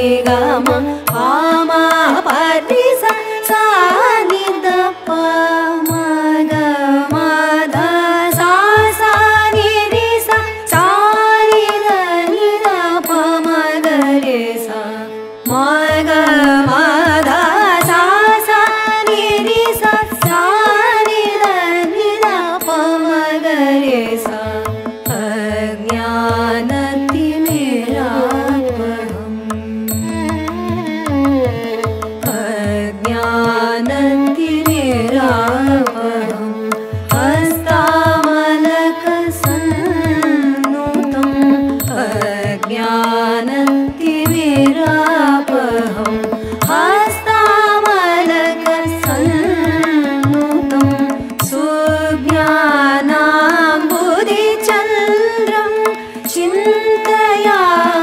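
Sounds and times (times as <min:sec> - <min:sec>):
person singing ornamented melody: 0:00.0 - 0:58.0.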